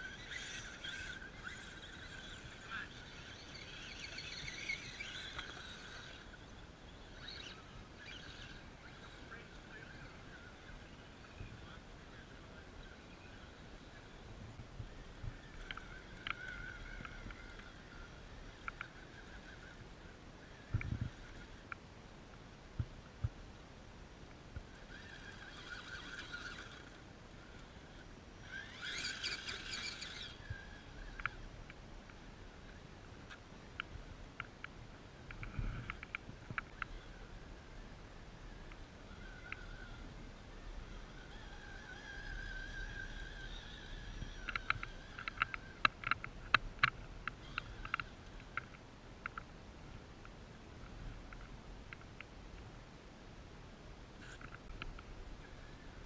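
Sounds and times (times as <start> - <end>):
faint electric motor whine: 0.0 - 56.0.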